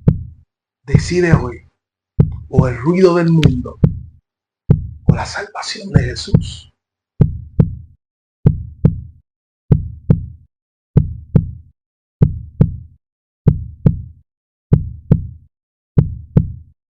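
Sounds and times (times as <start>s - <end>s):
heartbeat thumps: 0.0s - 1.6s, 2.2s - 6.6s, 7.2s - 10.4s, 11.0s - 16.7s.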